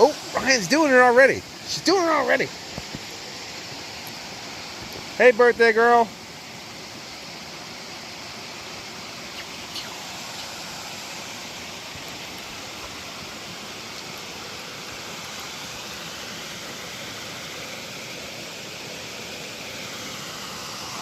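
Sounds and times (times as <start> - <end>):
waterfall rushing and splashing: 0.0 - 21.0.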